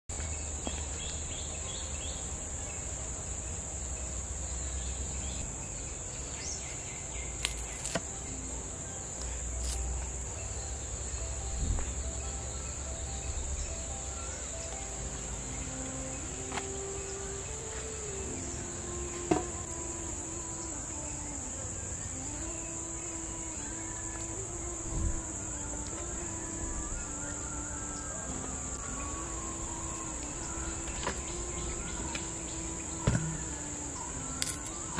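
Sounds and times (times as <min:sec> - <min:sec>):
insects droning: 0:00.1 - 0:34.9.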